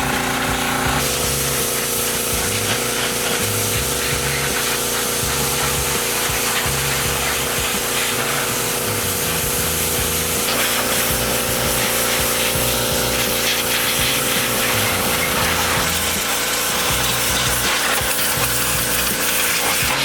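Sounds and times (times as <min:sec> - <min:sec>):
pressure washer engine running: 0:00.0 - 0:20.0
water jet spraying: 0:00.0 - 0:20.0.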